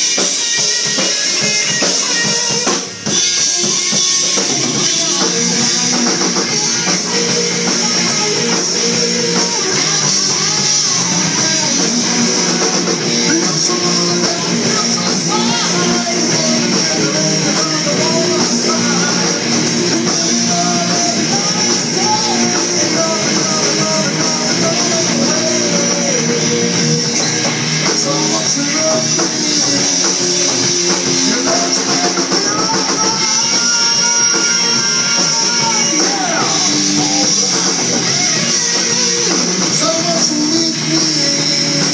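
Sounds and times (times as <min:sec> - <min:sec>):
rock music with guitar and drums: 0:00.0 - 0:41.9.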